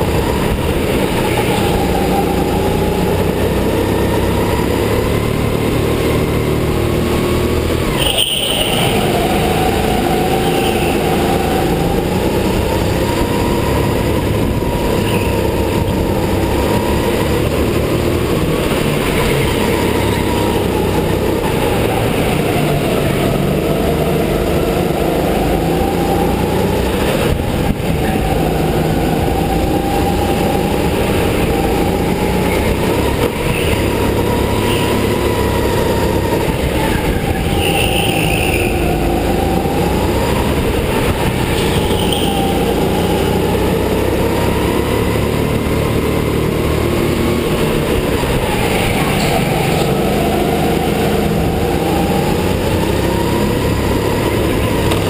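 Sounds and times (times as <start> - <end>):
go-kart motor racing: 0.0 - 55.0.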